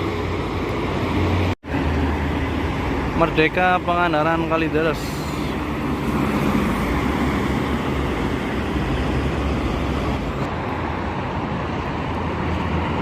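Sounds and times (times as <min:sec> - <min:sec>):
bus diesel engine drone: 0:00.0 - 0:13.0
tyres rushing on road: 0:00.0 - 0:13.0.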